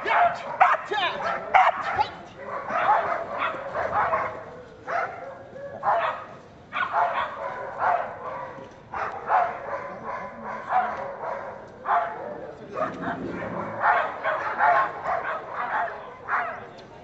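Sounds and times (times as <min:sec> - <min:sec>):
dog barking: 0:00.0 - 0:16.8.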